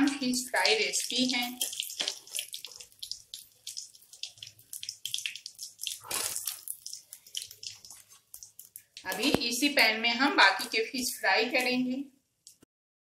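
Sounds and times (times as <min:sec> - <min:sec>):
oil sizzling in a frying pan: 0:00.0 - 0:10.8.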